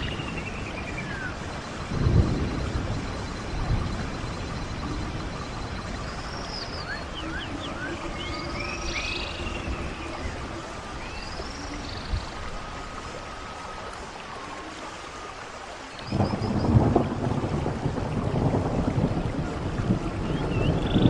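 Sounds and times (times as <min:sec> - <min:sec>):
birds chirping: 0:00.0 - 0:16.9
stream water running: 0:00.0 - 0:21.0.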